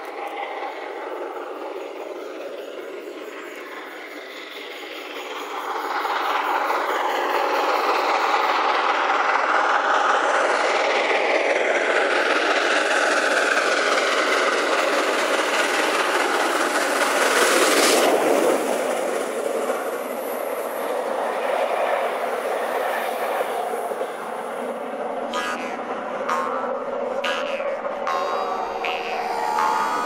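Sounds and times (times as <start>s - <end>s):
train running on rails: 0.0s - 30.0s.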